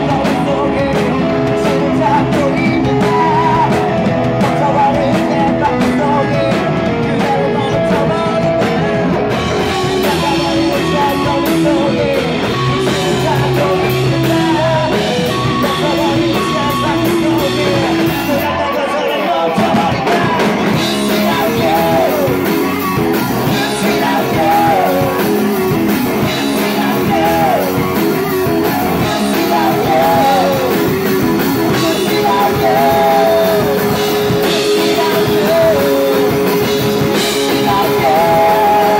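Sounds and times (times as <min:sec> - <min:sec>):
live rock band playing: 0:00.0 - 0:38.9
man singing lead vocal: 0:00.0 - 0:38.9.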